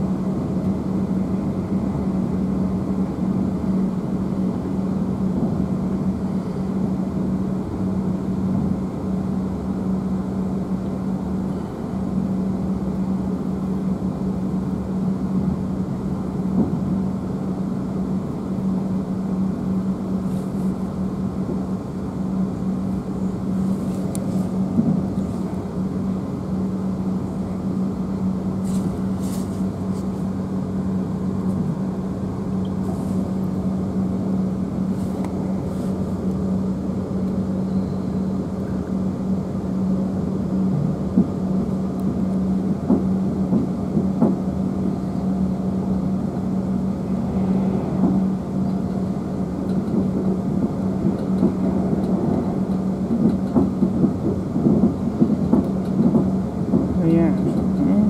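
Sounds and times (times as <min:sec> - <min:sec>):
train interior hum: 0:00.0 - 0:58.0
wheels rumbling on track: 0:00.0 - 0:58.0.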